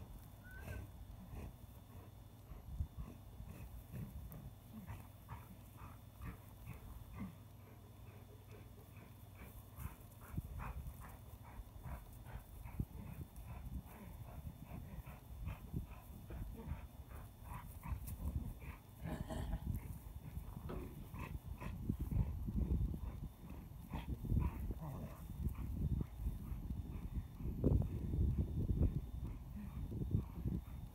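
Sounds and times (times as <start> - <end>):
dog panting: 0.6 - 30.9.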